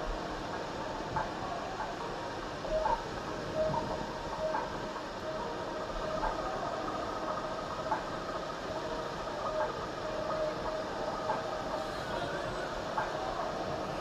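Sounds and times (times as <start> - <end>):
faint mechanical hum: 0.0 - 14.0
sea water rushing along hull: 0.0 - 14.0.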